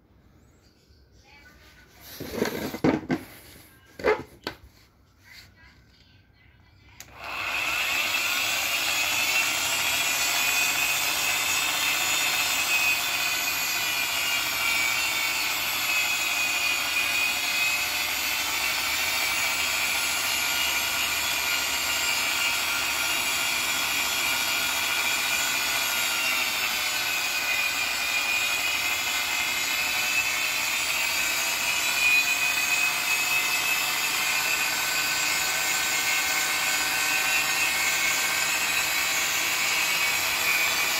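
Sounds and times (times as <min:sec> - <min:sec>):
electric drill motor whine: 0:07.0 - 0:40.9.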